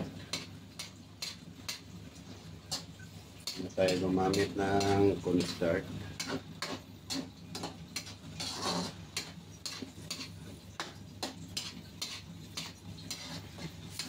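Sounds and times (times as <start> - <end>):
metal spatula scraping wok: 0.0 - 14.0.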